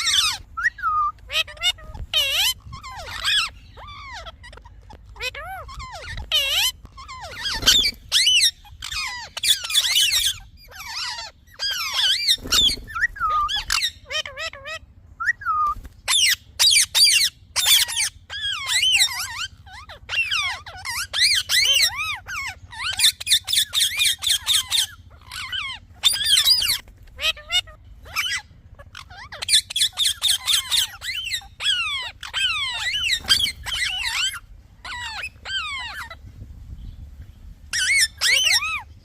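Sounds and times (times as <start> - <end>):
parrot chirping: 0.0 - 36.8, 37.7 - 39.0.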